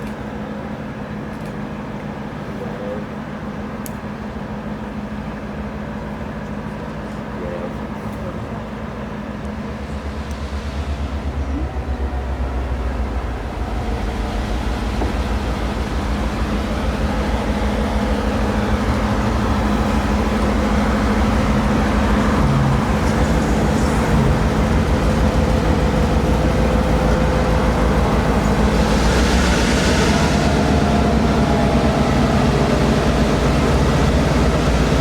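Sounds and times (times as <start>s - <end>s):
train engine rumble: 0.0s - 35.0s.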